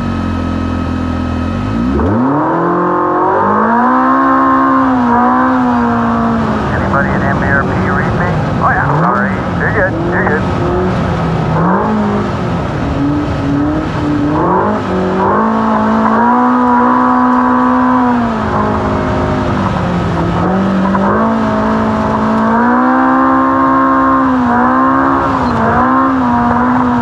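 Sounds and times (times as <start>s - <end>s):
race car engine running hard: 0.0s - 27.0s.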